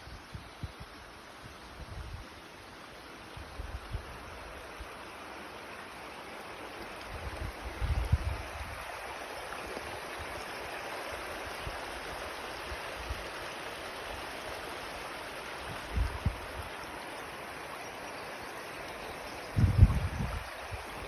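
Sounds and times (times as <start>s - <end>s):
river water rushing: 4.1s - 21.0s.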